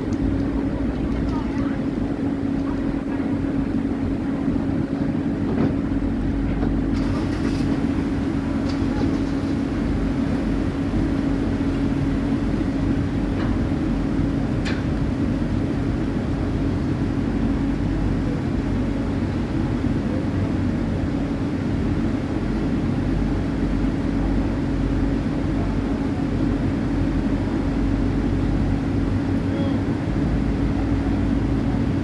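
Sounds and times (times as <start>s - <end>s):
ship engines droning: 0.0s - 32.0s.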